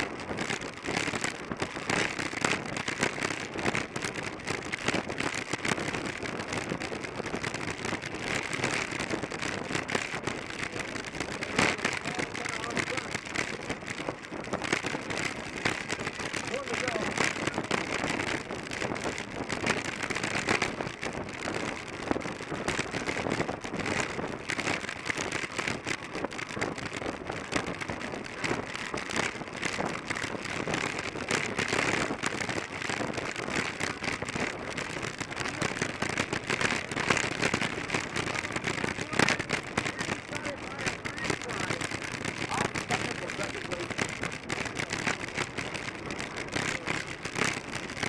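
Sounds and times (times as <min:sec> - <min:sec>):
wind rushing over microphone: 0:00.0 - 0:48.0.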